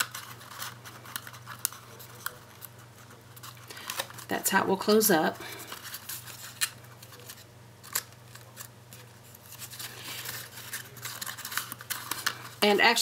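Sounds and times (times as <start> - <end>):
paper scraping and rustling: 0.0 - 4.3, 5.5 - 12.6.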